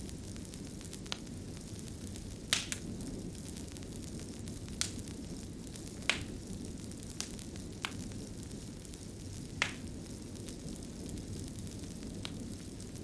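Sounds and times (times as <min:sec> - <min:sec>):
fire crackling: 0:00.0 - 0:13.0
sharp fire pops: 0:00.0 - 0:13.0.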